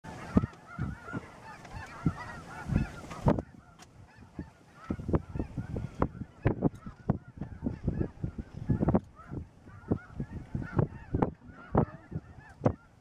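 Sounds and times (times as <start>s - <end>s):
geese honking: 0.1s - 13.0s.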